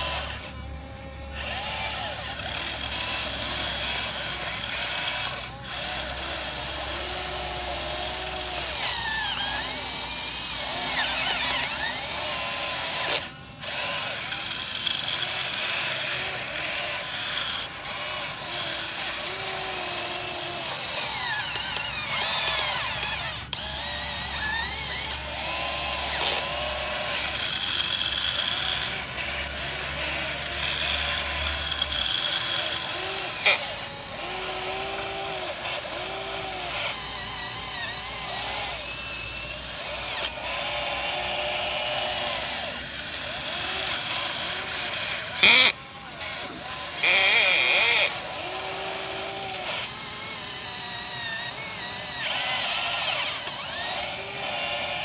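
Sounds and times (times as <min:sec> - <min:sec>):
electric motors whining: 0:00.0 - 0:55.0.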